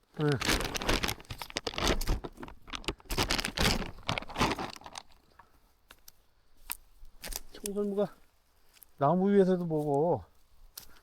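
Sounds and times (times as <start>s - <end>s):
crunching of forest litter: 0.0s - 11.0s.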